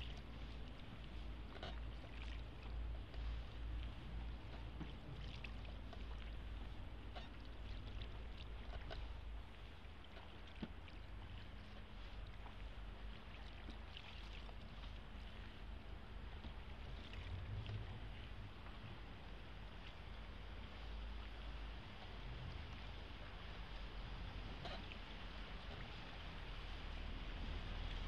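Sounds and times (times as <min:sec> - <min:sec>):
low steady rumble: 0:00.0 - 0:28.0
water drips and splashes: 0:00.0 - 0:28.0
water lapping around a boat: 0:00.0 - 0:28.0.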